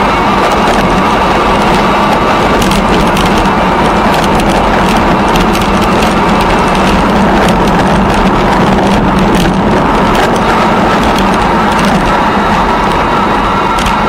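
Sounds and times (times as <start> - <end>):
rolling rumble with crackles and rattles: 0.0 - 14.0.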